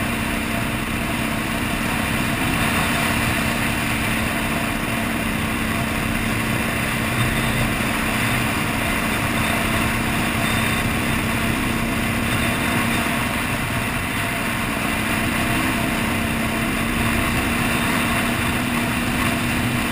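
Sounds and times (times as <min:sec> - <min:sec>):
two-stroke engine running: 0:00.0 - 0:19.9.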